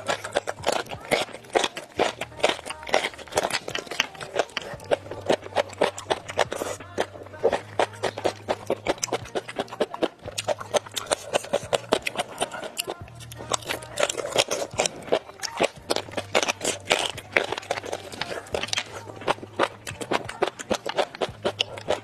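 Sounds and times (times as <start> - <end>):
crunching and chewing: 0.0 - 22.0
music: 0.0 - 22.0.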